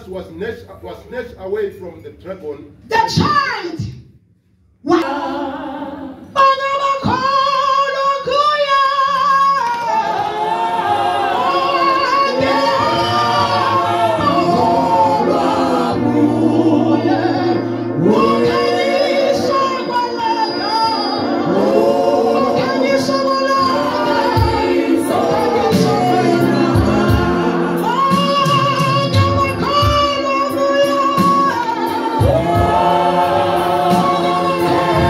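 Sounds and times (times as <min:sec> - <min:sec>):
group gospel singing: 0:04.9 - 0:35.0
woman's lead singing voice: 0:05.0 - 0:35.0.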